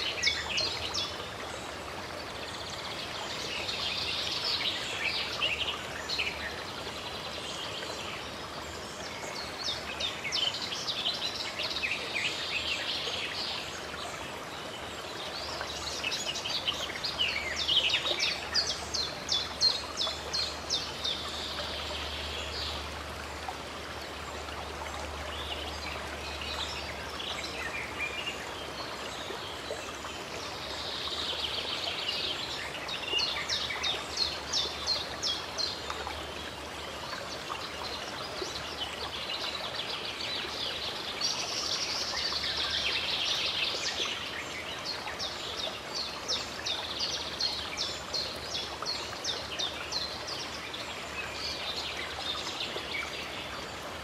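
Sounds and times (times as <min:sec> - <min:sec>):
running stream water: 0:00.0 - 0:54.0.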